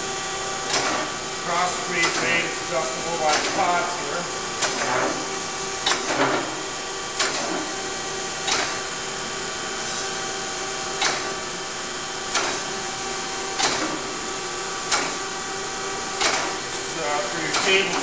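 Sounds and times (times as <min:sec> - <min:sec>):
grinder humming: 0:00.0 - 0:18.0.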